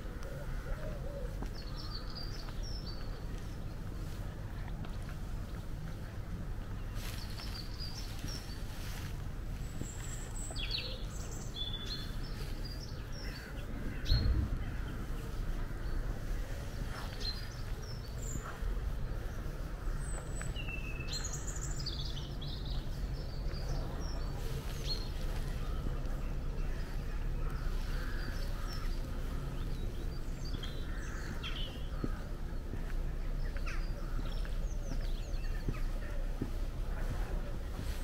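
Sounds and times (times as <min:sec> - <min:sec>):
birds chirping and calling: 0:00.0 - 0:03.8, 0:06.8 - 0:38.0
steady low rumble: 0:00.0 - 0:38.0.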